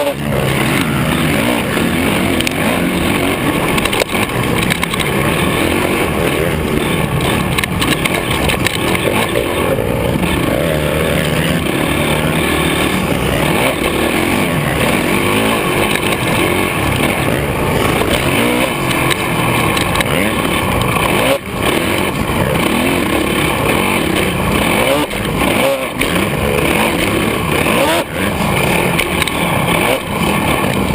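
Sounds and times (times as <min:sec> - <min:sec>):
dirt bike engines revving: 0:00.0 - 0:30.9.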